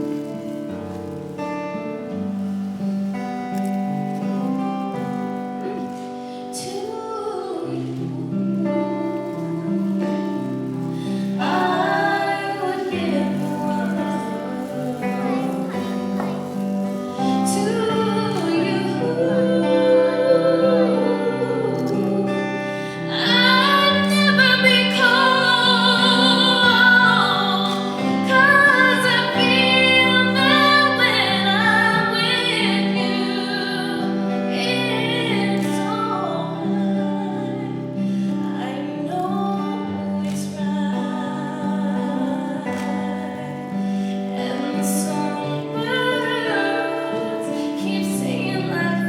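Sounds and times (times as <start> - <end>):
woman singing a ballad: 4.2 - 49.0.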